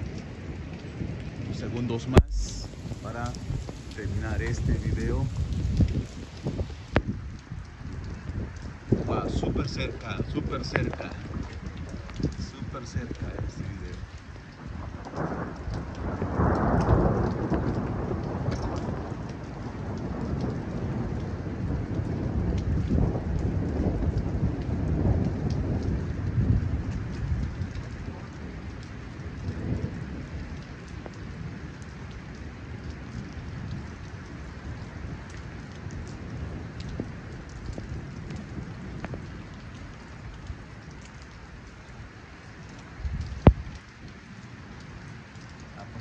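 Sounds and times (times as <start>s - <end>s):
rolling thunder: 0.0s - 42.0s, 43.0s - 46.0s
raindrops ticking: 0.0s - 46.0s
steady rain: 0.0s - 46.0s.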